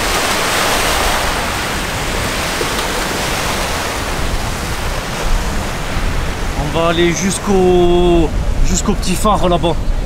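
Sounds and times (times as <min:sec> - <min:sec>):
waves washing over rocks: 0:00.0 - 0:09.6.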